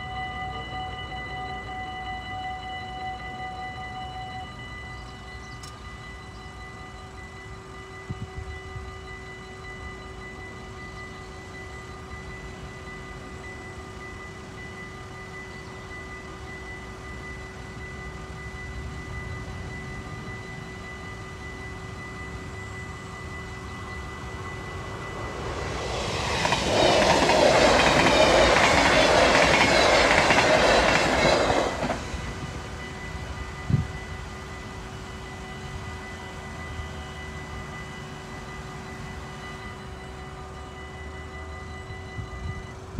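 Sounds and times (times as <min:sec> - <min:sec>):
crossing bell ringing: 0:00.0 - 0:42.9
train wheels on rails: 0:04.5 - 0:42.9.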